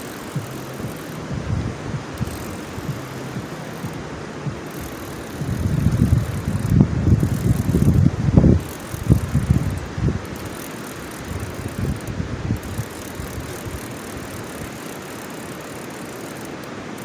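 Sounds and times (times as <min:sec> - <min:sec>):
fishing reel cranking: 0:00.0 - 0:17.0
fishing rod handling noise: 0:00.0 - 0:17.0.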